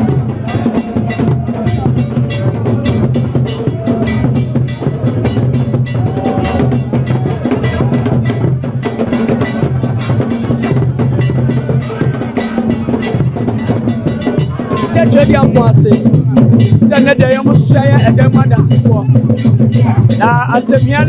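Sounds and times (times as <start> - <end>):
drum ensemble playing fast beat: 0.0 - 21.0
sharp clicking percussion: 0.0 - 21.0.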